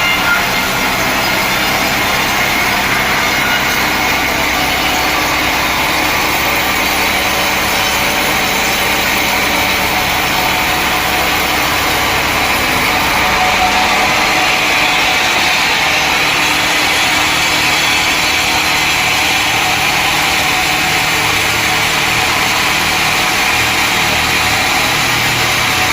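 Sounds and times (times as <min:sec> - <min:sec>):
motor running: 0:00.0 - 0:25.9
saw blade cutting log: 0:00.0 - 0:25.9.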